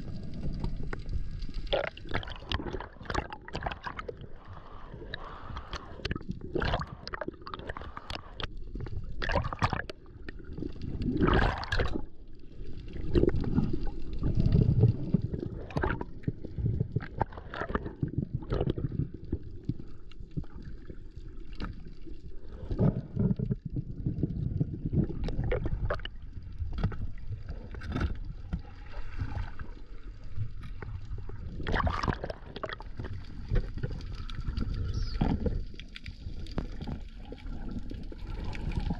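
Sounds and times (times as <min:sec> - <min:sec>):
water rushing underwater: 0:00.0 - 0:38.9.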